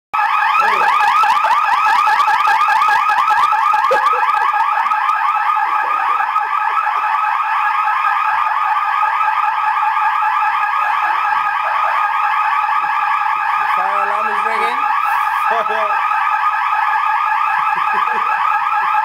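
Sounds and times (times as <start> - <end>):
fire alarm sweeping chirps: 0.2 - 19.0.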